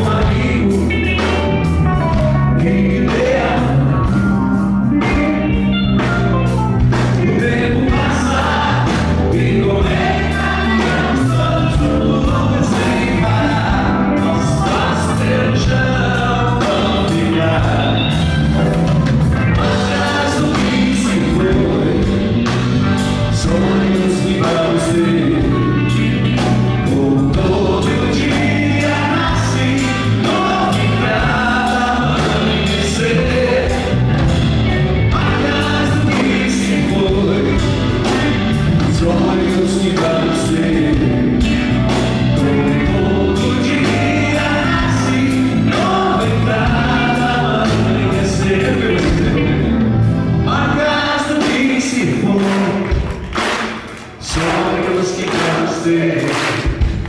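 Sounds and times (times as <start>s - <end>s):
person singing: 0.0s - 4.3s, 6.9s - 18.6s, 19.6s - 34.3s, 35.1s - 53.3s
rock band playing: 0.0s - 57.0s.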